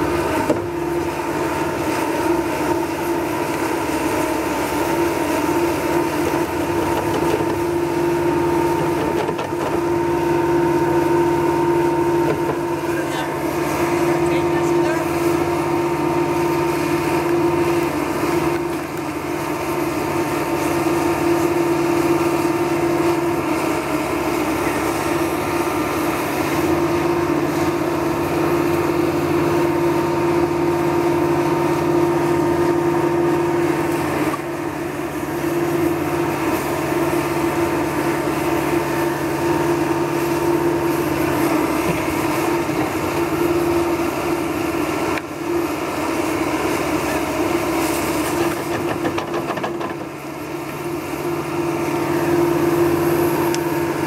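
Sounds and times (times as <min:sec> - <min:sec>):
steady pitched hum: 0:00.0 - 0:45.8
diesel engine running under load: 0:00.0 - 0:54.0.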